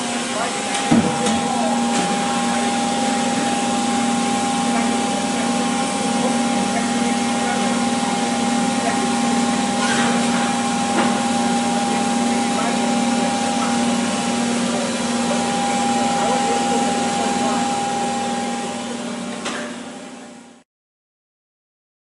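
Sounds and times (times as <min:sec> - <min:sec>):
machine whirring hum: 0:00.0 - 0:20.6.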